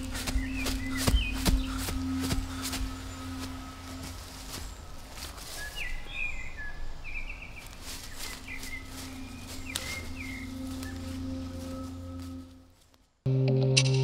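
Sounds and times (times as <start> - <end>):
low steady hum: 0.0 - 5.4, 8.0 - 14.0
bird chirping: 0.0 - 12.7.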